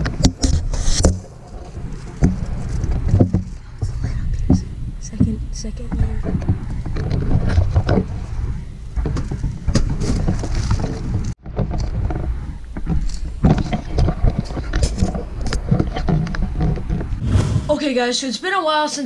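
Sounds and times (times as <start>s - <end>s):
small knocks and bumps: 0.0s - 17.2s.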